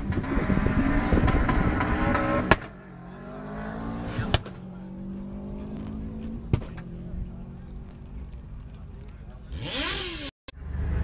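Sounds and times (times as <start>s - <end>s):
car engine revving: 0.0s - 8.6s, 9.4s - 11.0s
drag racing engines accelerating: 0.0s - 11.0s.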